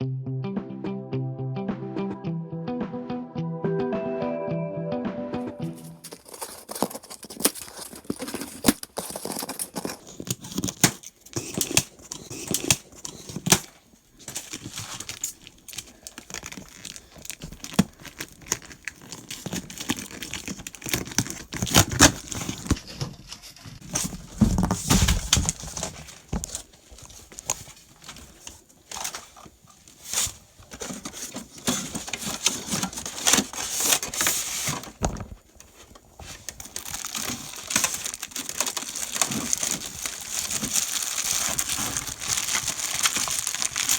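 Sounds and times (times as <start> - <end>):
packaging rustling and tearing: 5.7 - 22.9, 23.8 - 43.9.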